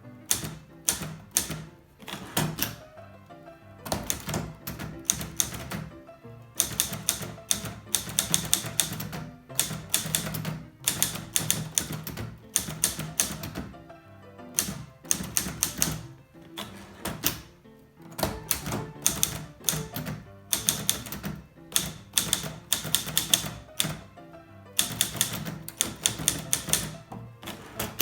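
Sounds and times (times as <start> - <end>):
manual typewriter key strikes: 0.2 - 2.9, 3.8 - 6.0, 6.6 - 13.8, 14.6 - 24.1, 24.8 - 28.0.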